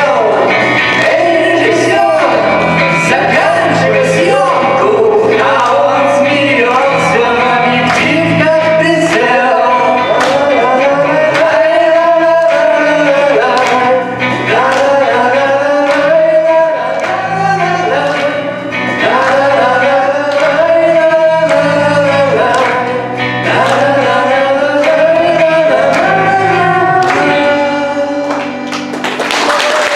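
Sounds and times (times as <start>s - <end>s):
instrumental backing music: 0.0s - 29.9s
man singing: 0.0s - 29.9s.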